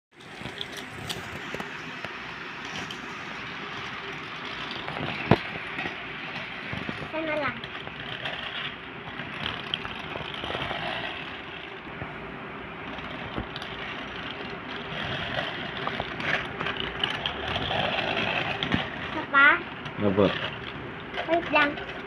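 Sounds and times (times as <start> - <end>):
toy train motor whirring: 0.2 - 11.8, 12.8 - 22.0.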